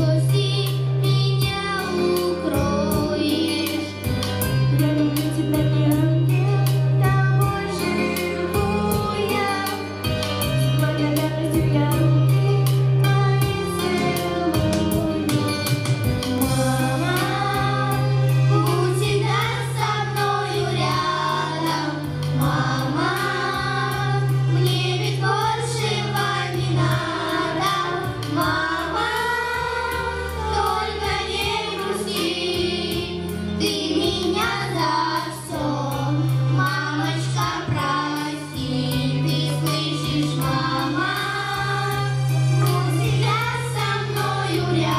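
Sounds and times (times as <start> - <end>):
children singing into microphones: 0.0 - 15.7, 16.3 - 44.9
recorded instrumental accompaniment: 0.0 - 44.9.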